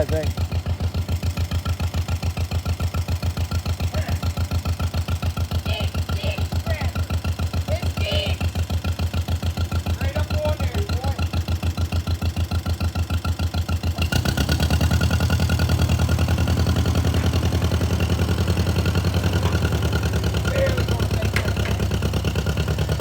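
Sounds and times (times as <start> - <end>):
tractor engine putt-putt: 0.0 - 23.0.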